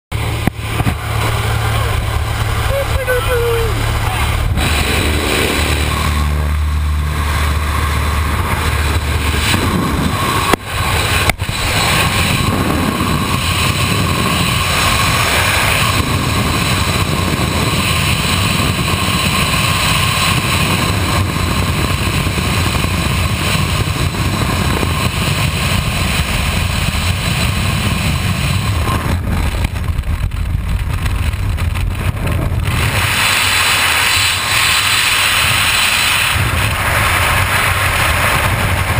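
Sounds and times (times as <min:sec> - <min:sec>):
plane engine drone: 0:00.1 - 0:38.9
wind rushing over microphone: 0:00.1 - 0:38.9.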